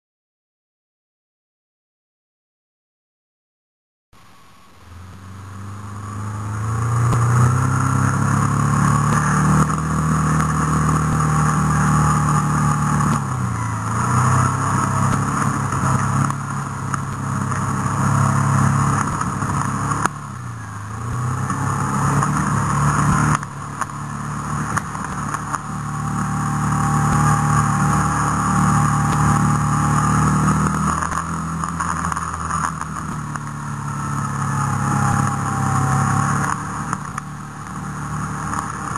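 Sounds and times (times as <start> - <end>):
off-road vehicle engine running: 4.2 - 38.9.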